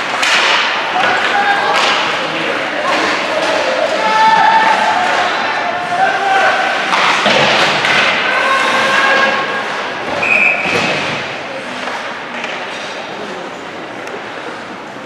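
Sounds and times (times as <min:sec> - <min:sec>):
ice skating and stick play: 0:00.0 - 0:13.6.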